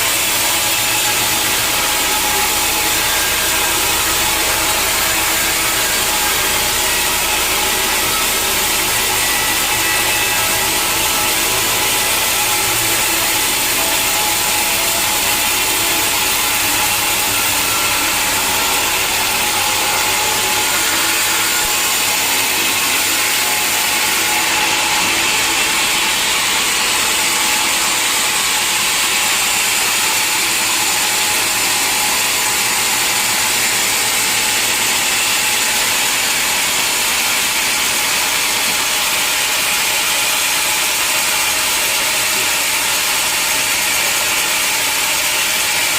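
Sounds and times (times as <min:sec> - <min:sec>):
sawmill machinery running: 0:00.0 - 0:45.9
steady high mechanical tones: 0:00.0 - 0:45.9.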